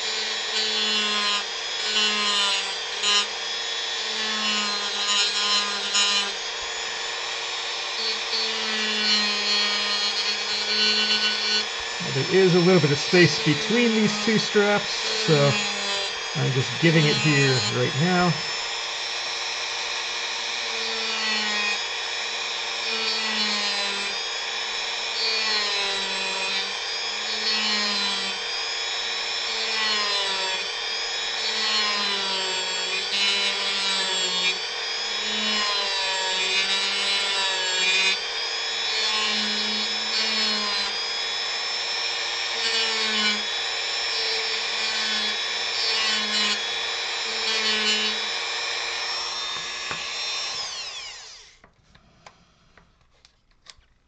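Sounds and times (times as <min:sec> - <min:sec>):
rotary tool whining against wood: 0:00.0 - 0:54.0.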